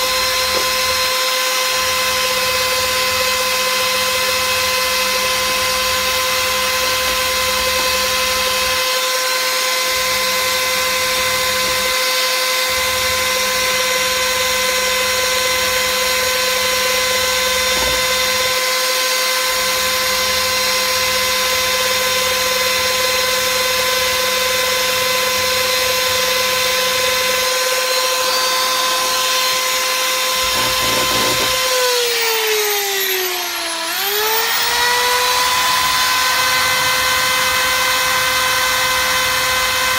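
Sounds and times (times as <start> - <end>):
electric drill whining: 0.0 - 39.9.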